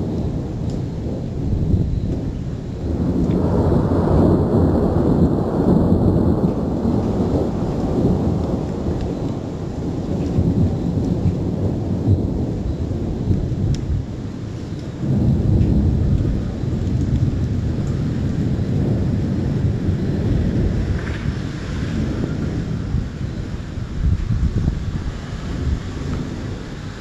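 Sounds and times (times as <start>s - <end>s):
thunder rumbling: 0.0s - 27.0s.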